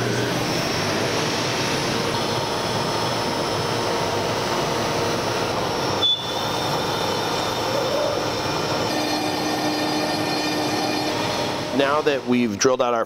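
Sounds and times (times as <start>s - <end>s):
cnc router spindle drilling: 0.0s - 13.0s.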